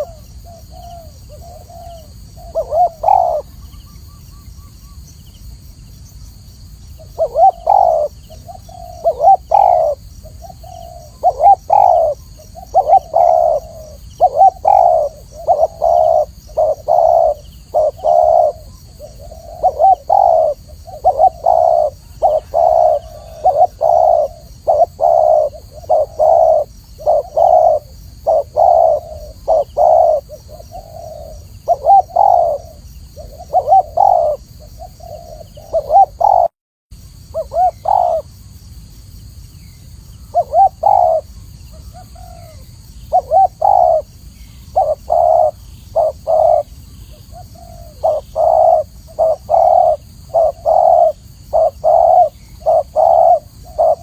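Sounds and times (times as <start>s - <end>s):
dove cooing: 0.0s - 4.2s, 7.0s - 36.6s, 37.3s - 38.3s, 40.3s - 54.0s.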